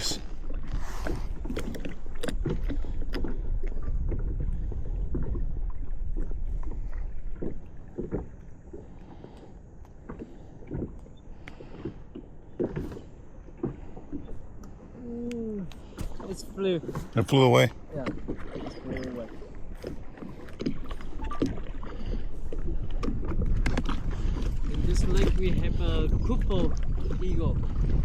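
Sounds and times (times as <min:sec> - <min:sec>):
wind rumble on microphone: 0:00.0 - 0:13.1, 0:18.0 - 0:28.0
water splashing around kayak: 0:00.0 - 0:28.0.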